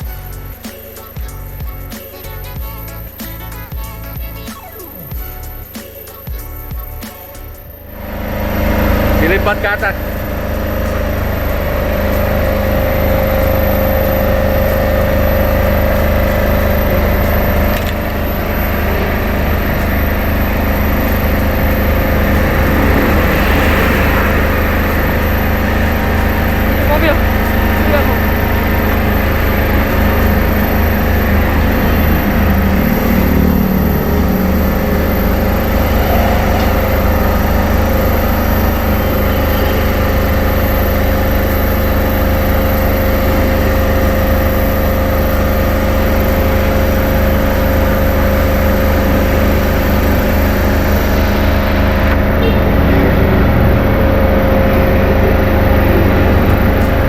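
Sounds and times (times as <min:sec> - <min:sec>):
large engine humming: 0:00.0 - 0:57.0.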